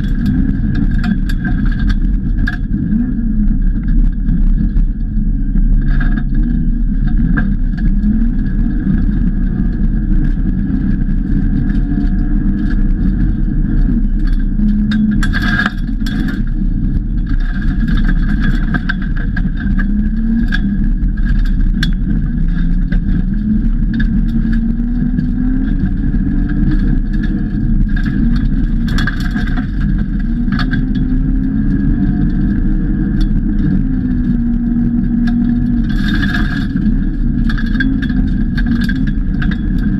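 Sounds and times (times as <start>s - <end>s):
gravel striking car: 0.0s - 39.9s
rally car engine revving: 0.0s - 39.9s.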